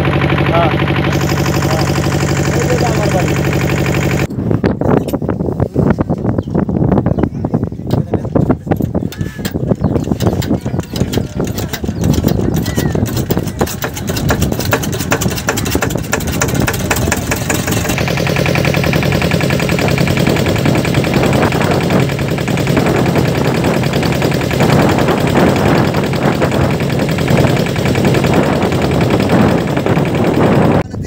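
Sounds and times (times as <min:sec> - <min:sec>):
motorboat engine chugging: 0:00.0 - 0:31.0.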